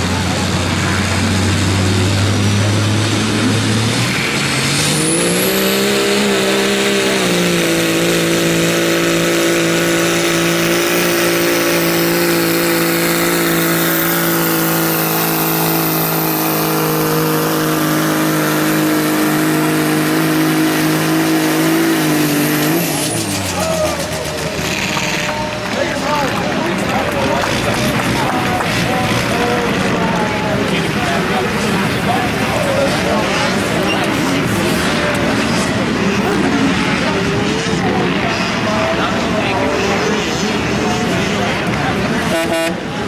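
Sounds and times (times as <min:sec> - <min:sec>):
diesel truck engine revving: 0:00.0 - 0:43.0.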